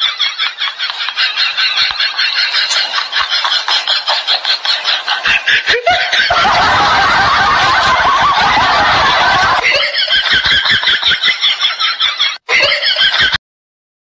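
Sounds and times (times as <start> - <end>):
person laughing: 0.0 - 13.4.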